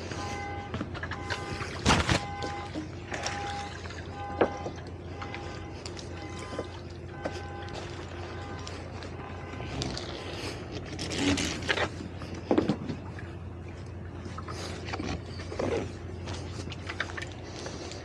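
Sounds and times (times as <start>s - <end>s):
boat engines idling: 0.0s - 18.0s.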